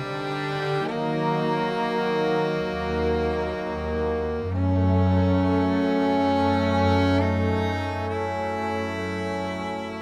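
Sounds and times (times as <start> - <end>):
slow bowed strings music: 0.0 - 10.0.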